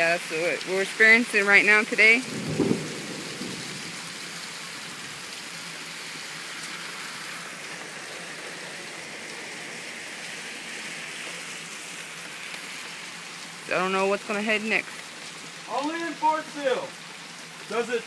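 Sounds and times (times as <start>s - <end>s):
hard rain and sleet falling: 0.0s - 18.0s.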